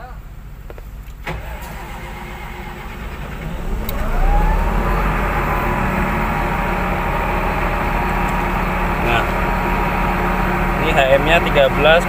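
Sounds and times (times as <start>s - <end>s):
diesel engine idling: 0.0s - 12.0s
engine starter cranking: 1.0s - 12.0s.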